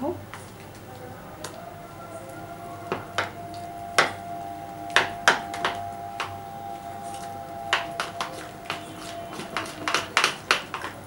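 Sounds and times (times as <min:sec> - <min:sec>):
faint steady hum: 0:00.0 - 0:11.0
hand beating batter in bowl: 0:00.3 - 0:11.0.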